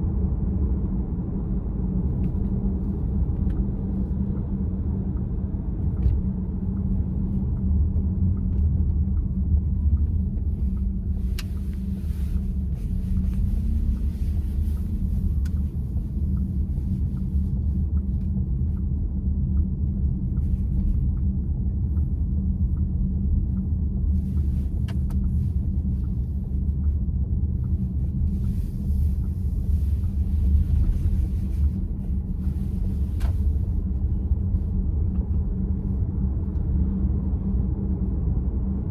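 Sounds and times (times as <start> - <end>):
road and tyre rumble: 0.0 - 38.9.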